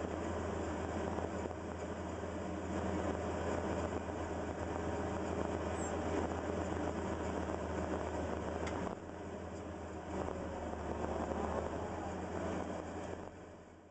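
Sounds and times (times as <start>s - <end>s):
excavator diesel engine drone: 0.0s - 13.9s.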